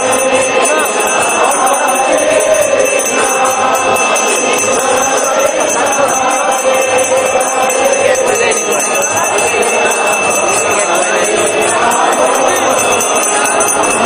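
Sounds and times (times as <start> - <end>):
bells and hand cymbals jingling: 0.0 - 14.0
group chanting: 0.0 - 14.0.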